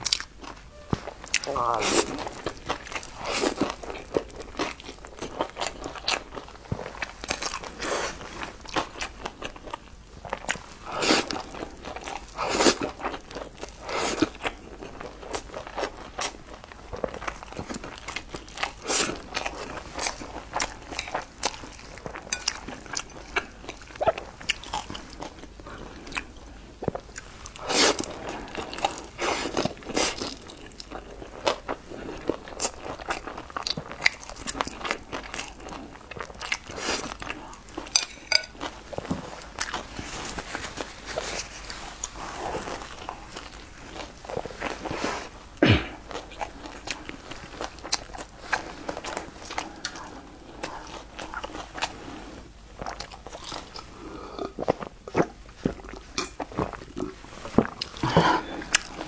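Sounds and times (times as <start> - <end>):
wet chewing sounds: 0.0 - 59.0.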